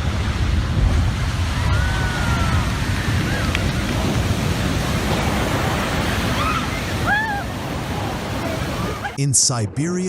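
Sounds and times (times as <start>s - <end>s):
surging water: 0.0s - 9.2s
wind buffeting microphone: 0.0s - 9.2s
wind rushing: 0.0s - 9.2s.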